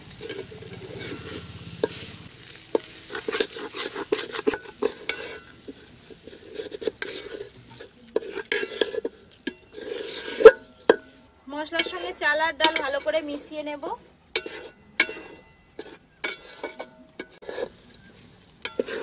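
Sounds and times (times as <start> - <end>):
grains sizzling in oil: 0.0 - 19.0
metal ladle scraping a pot: 0.0 - 19.0.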